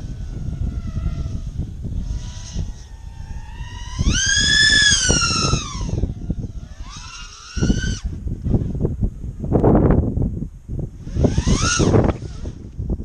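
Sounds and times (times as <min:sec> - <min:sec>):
drone motors whining: 0:00.0 - 0:09.7, 0:10.8 - 0:13.0.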